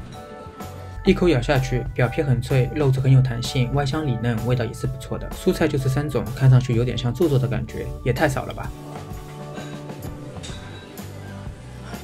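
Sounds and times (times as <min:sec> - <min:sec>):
low bass line: 0:00.9 - 0:11.9.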